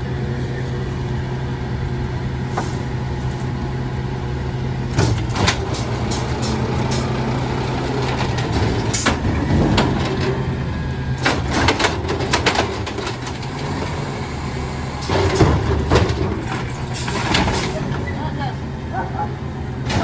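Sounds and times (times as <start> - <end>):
garbage truck engine hum: 0.0 - 20.0.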